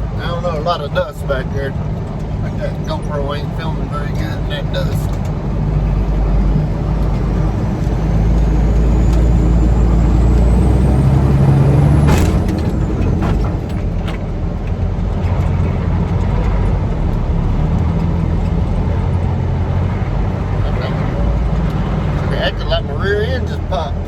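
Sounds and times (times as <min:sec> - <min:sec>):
diesel truck engine pulling hard: 0:00.0 - 0:24.0.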